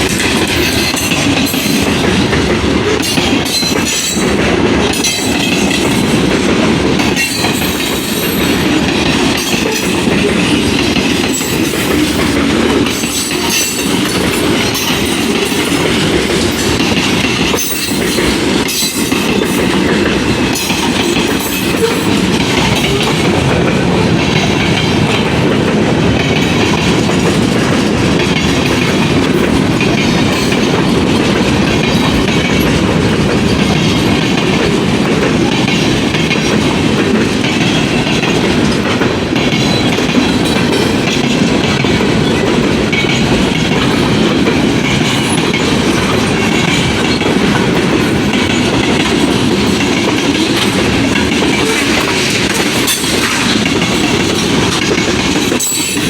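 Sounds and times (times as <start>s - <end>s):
train wheels rolling on rail: 0.0s - 56.0s
wheels clicking over rail joints: 0.0s - 56.0s.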